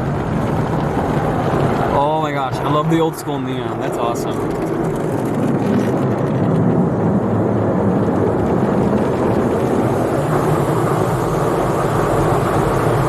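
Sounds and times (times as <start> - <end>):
car wash water spraying and scrubbing: 0.0 - 13.0.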